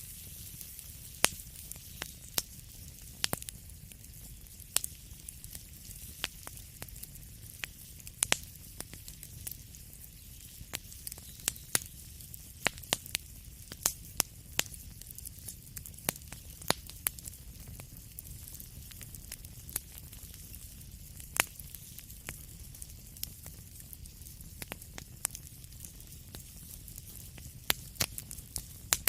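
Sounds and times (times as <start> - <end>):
low rumble of flame: 0.0 - 29.0
wood fire crackling and popping: 0.0 - 29.0.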